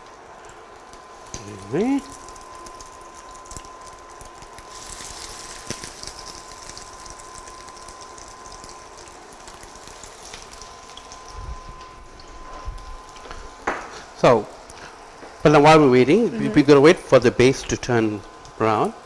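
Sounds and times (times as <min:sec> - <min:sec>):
fish cakes sizzling in oil: 0:00.0 - 0:19.0.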